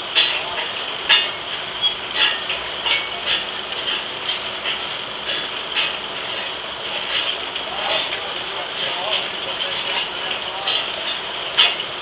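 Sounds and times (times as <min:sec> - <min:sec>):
sawmill machinery running: 0:00.0 - 0:12.0.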